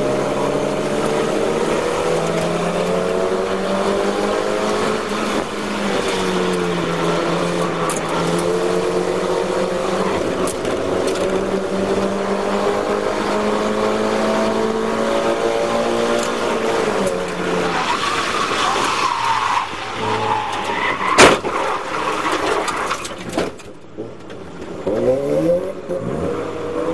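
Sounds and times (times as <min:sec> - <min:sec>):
race car engine at high revs: 0:00.0 - 0:23.0, 0:24.7 - 0:26.9.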